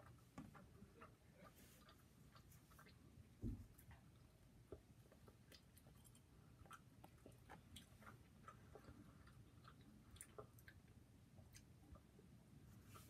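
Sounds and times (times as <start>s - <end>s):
person chewing pizza: 0.0s - 12.2s.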